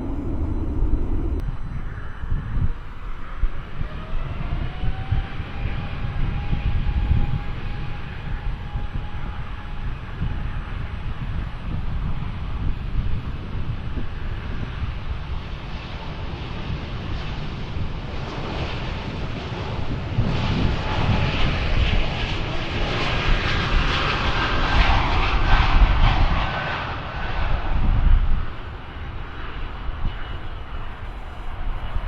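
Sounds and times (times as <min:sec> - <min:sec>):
airliner engines roaring: 0:00.0 - 0:32.0.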